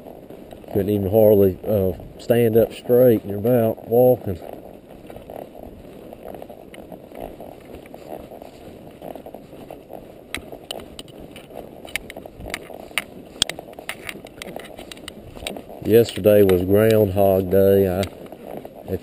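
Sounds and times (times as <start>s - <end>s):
wind rumbling on microphone: 0.0s - 19.0s
sharp clicks and ticks: 0.4s - 19.0s.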